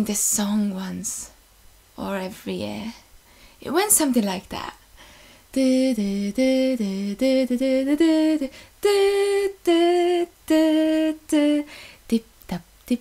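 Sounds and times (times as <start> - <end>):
woman singing unaccompanied: 0.0 - 1.4, 2.0 - 3.0, 3.6 - 4.8, 5.4 - 13.0.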